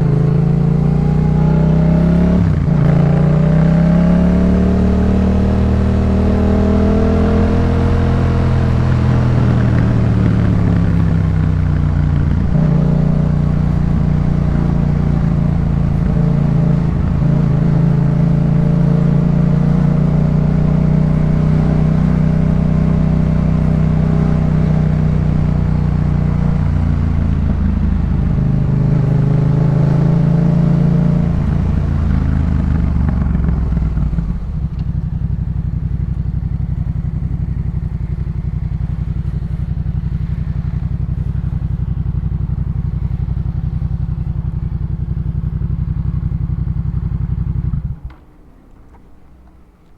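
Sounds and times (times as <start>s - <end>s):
motorcycle engine: 0.0s - 49.9s.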